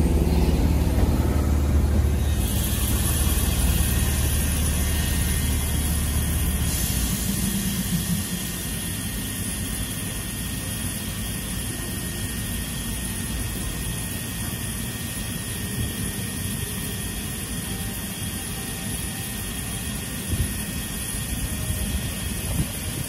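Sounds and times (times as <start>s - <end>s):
train low rumble: 0.0s - 23.0s.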